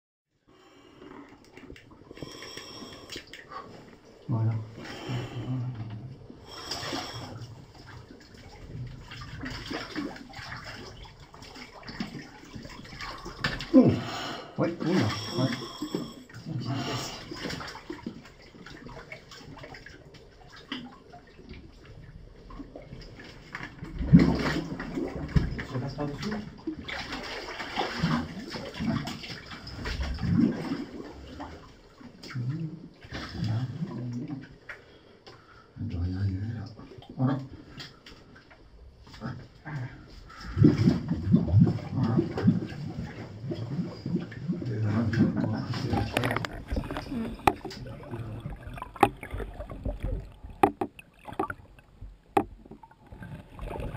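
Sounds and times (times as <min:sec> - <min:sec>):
shallow water sloshing and splashing: 0:00.5 - 0:53.9.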